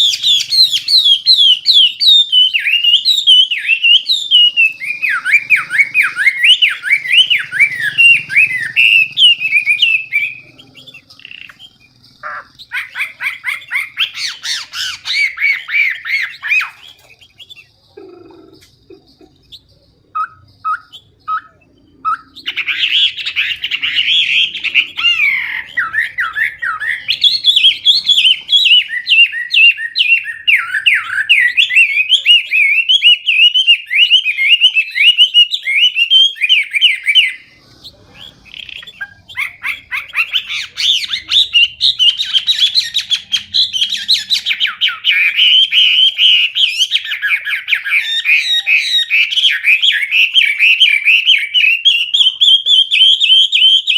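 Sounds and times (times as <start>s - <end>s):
bird singing whistled phrases: 0.0s - 18.7s, 19.4s - 53.9s.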